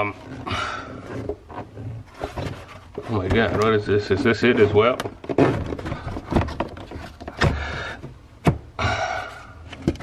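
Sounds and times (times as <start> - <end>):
scraping rustles: 0.0 - 8.1.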